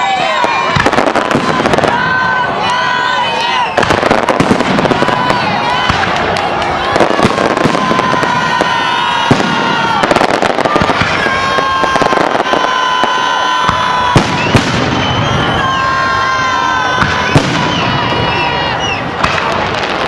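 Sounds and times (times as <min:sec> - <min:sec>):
crowd voices: 0:00.0 - 0:20.0
fireworks bangs: 0:00.0 - 0:20.0
fireworks whistling: 0:00.0 - 0:20.0.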